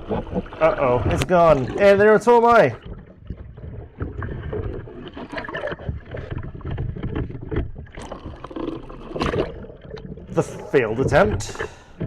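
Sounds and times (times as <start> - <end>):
muffled surf water sloshing: 0.0 - 12.0.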